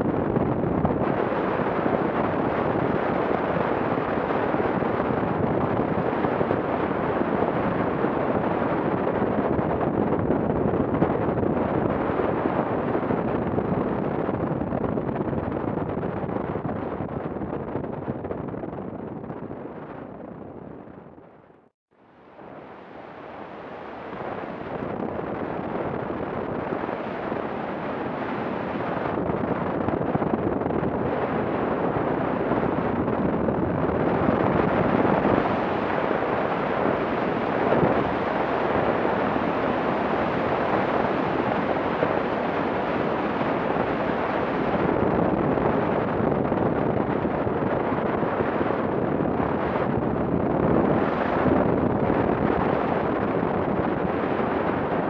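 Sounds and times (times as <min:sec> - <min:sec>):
wind rushing on microphone: 0:00.0 - 0:21.6, 0:22.3 - 0:55.0.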